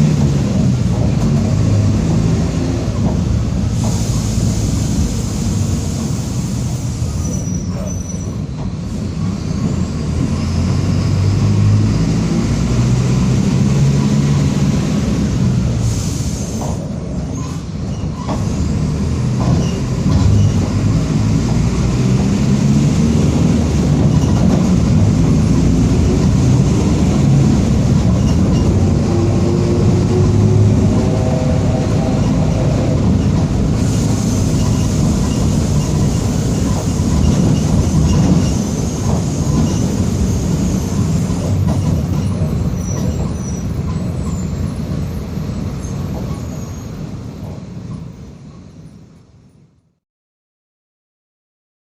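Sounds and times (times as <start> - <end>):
bus diesel engine: 0.0 - 49.7.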